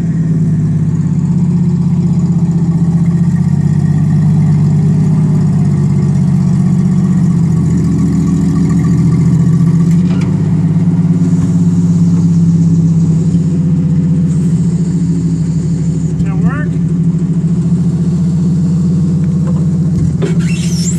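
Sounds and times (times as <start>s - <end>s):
forklift engine running: 0.0s - 20.9s.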